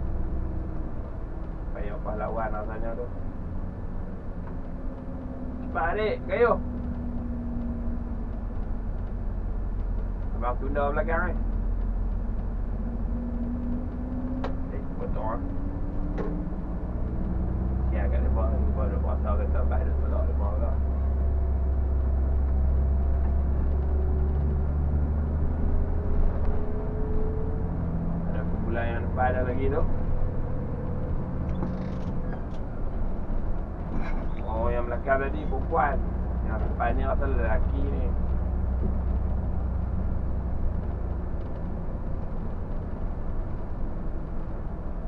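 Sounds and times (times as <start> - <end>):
coach diesel engine drone: 0.0 - 45.0
road noise: 0.0 - 45.0.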